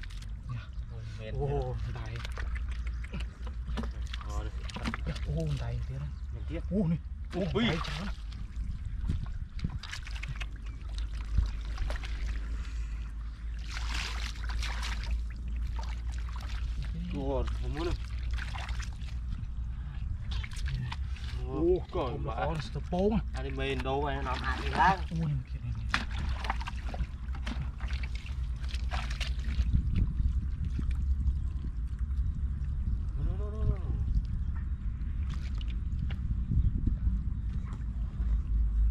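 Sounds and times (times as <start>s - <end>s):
water splashing and sloshing: 0.0s - 36.4s
low rumble: 0.0s - 38.9s.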